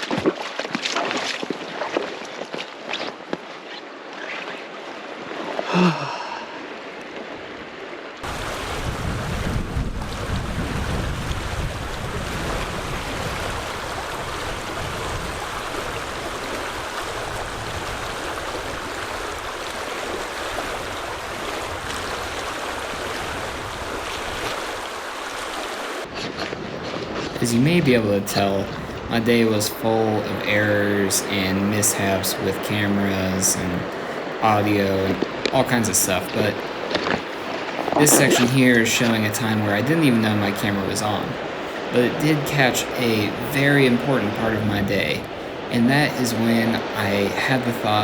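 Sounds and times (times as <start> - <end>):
river water rushing: 0.0 - 9.3, 10.9 - 48.0
wind rumbling on microphone: 7.2 - 48.0.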